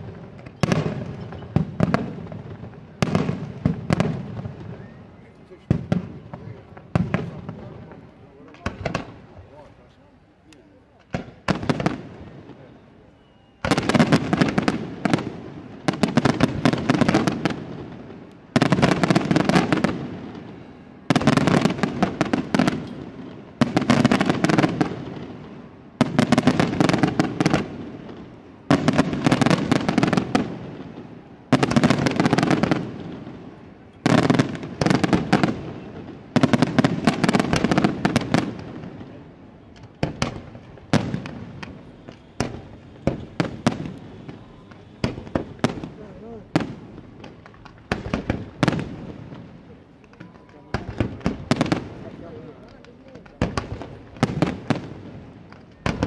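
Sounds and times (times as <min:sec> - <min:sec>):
firework crackling: 0:00.0 - 0:56.0.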